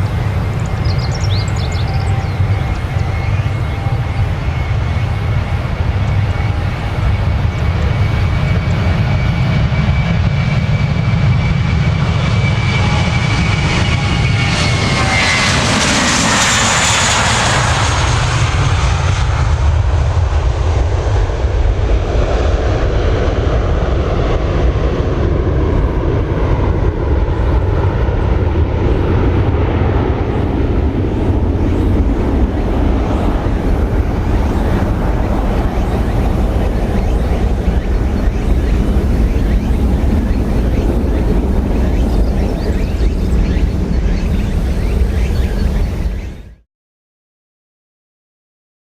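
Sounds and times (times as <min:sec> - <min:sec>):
jet airliner engines passing: 0:00.0 - 0:46.6.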